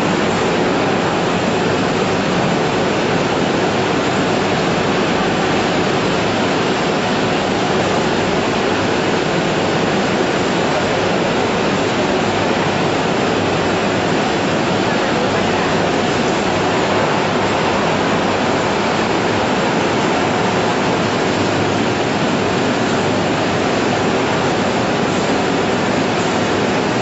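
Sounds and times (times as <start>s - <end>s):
machinery rushing noise: 0.0s - 27.0s.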